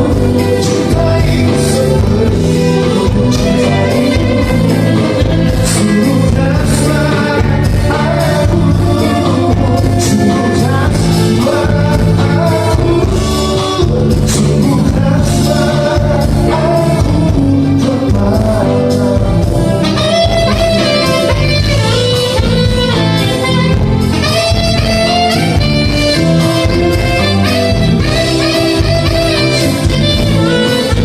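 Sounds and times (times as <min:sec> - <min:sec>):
drums and cymbals: 0:00.0 - 0:31.0
live band playing: 0:00.0 - 0:31.0
person singing: 0:00.0 - 0:31.0.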